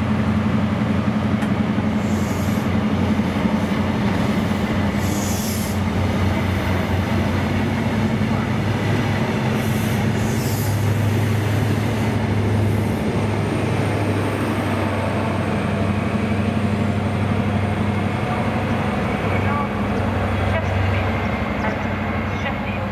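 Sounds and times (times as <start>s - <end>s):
diesel train engine droning: 0.0s - 22.9s
rail noise: 0.0s - 22.9s.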